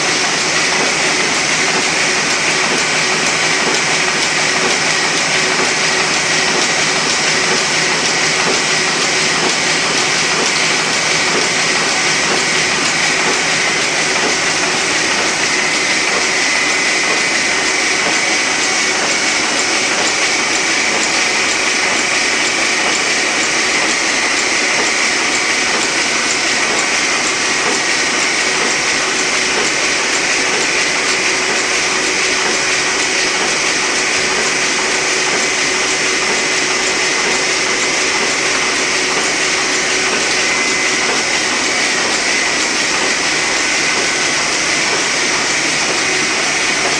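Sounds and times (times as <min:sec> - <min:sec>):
printing press running: 0:00.0 - 0:46.9.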